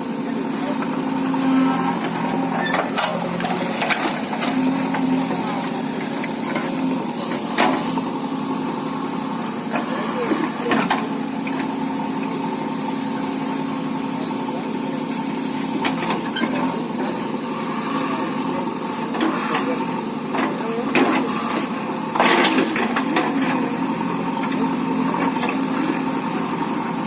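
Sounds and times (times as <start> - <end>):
earthmoving machine engine running: 0.0 - 27.0.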